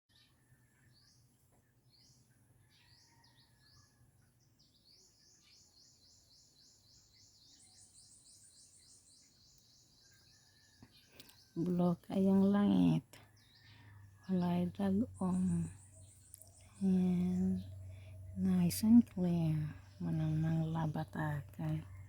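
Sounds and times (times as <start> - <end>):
faint bird chirps: 0.1 - 22.0.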